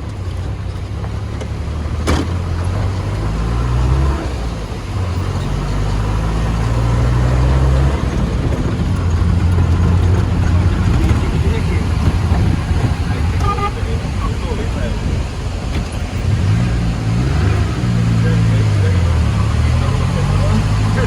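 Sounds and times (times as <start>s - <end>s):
vehicle engine under load: 0.0s - 21.0s.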